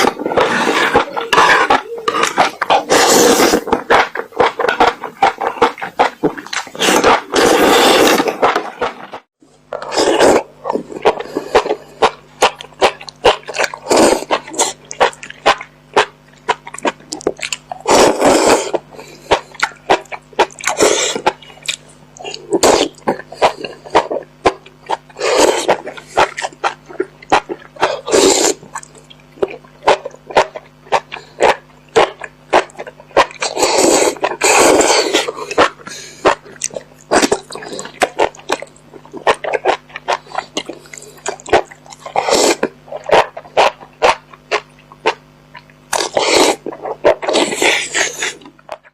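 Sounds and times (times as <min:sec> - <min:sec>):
loud slurps: 0:00.0 - 0:48.8
chewing: 0:00.0 - 0:48.9
wet mouth clicks: 0:09.7 - 0:48.9.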